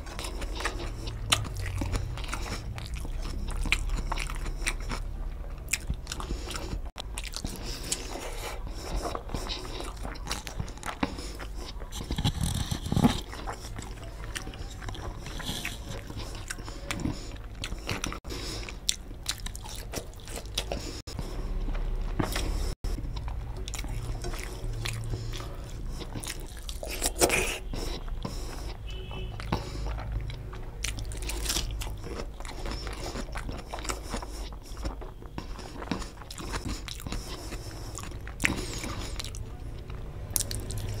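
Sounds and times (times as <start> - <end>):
chewing mouth clicks and crunches: 0.0 - 41.0
steady low hum: 0.0 - 41.0.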